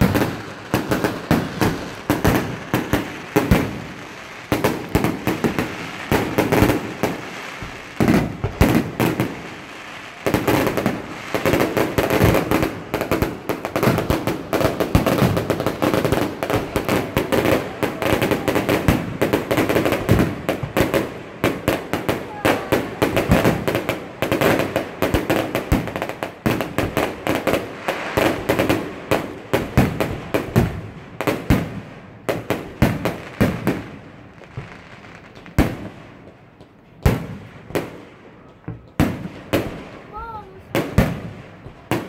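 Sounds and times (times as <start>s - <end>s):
fireworks bursting: 0.0s - 42.0s.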